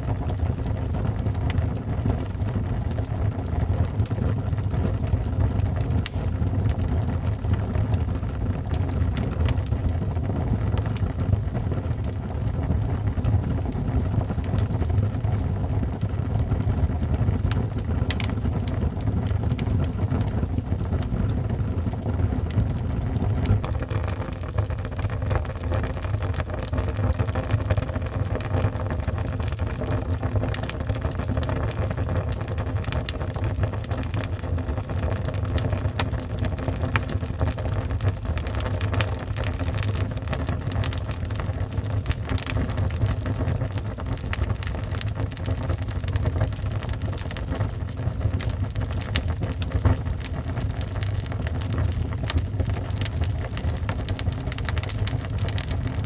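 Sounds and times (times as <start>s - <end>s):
fire crackles and pops: 0.0s - 56.0s
low rumble of flames: 0.0s - 56.0s.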